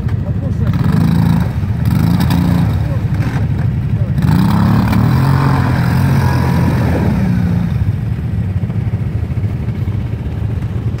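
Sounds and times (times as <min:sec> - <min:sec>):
driving through ice and water: 0:00.0 - 0:11.0
quad engine running: 0:00.0 - 0:11.0.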